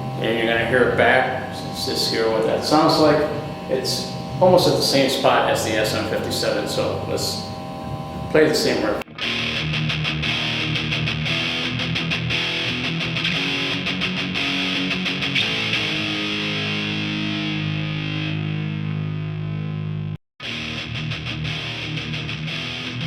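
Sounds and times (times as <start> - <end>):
electric guitar riff: 0.0 - 23.0.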